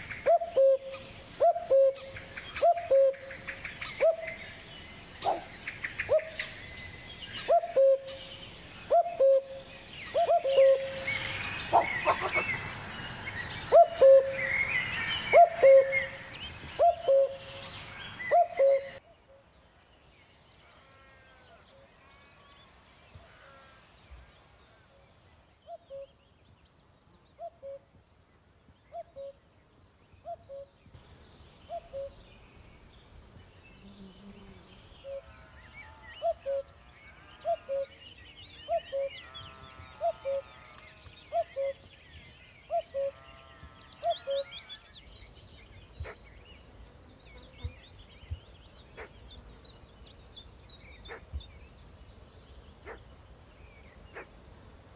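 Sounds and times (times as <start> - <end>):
birds chirping and trilling: 0.0 - 54.9.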